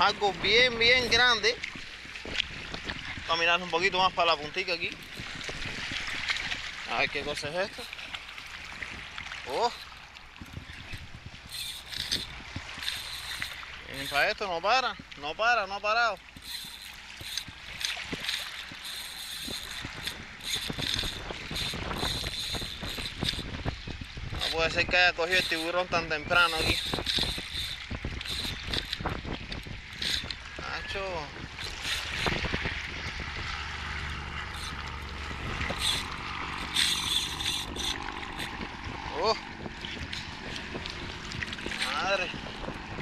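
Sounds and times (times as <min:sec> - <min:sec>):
fishing reel drag buzzing: 0:00.0 - 0:43.0
small waves washing: 0:00.0 - 0:43.0
wind rumble on microphone: 0:00.0 - 0:43.0.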